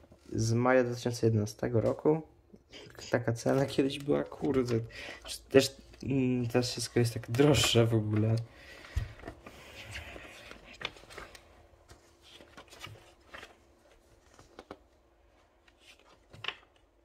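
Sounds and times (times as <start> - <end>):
magazine pages rustling: 3.3 - 17.0.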